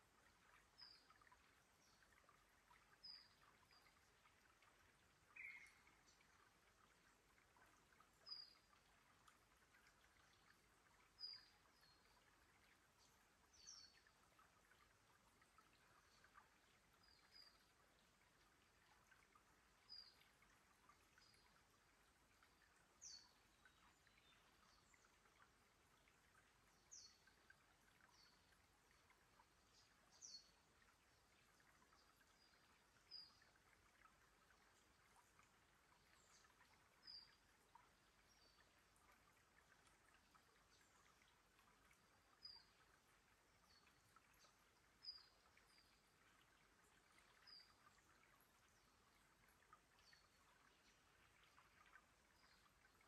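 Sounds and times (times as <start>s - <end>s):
water trickling over rocks: 0.0s - 53.0s.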